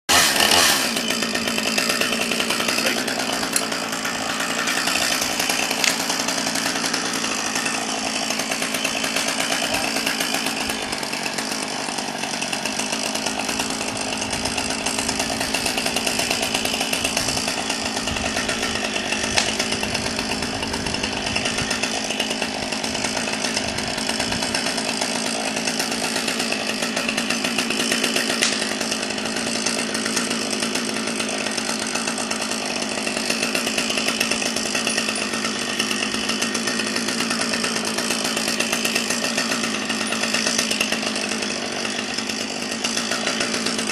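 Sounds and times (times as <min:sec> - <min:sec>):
chainsaw running: 0:00.1 - 0:43.9.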